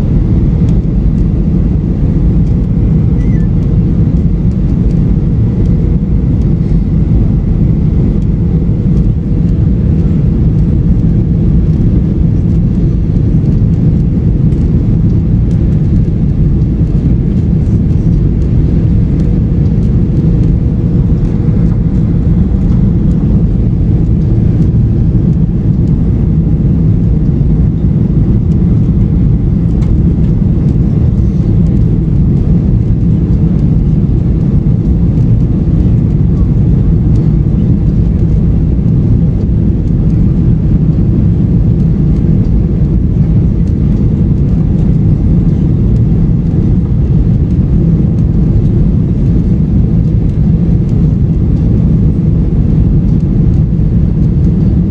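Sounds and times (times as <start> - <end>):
airplane engines droning: 0.0 - 54.9
faint steady hum: 0.0 - 54.9
rushing airflow: 0.0 - 54.9.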